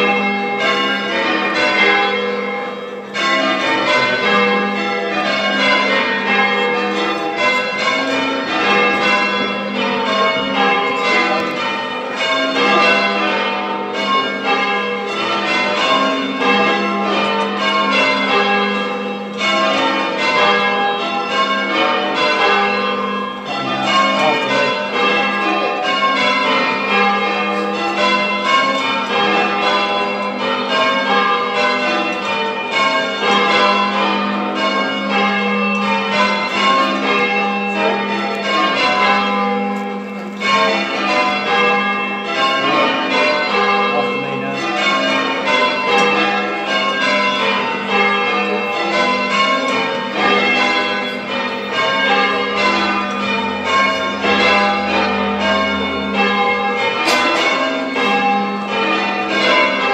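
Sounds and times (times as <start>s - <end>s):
church bells change ringing: 0.0s - 59.9s.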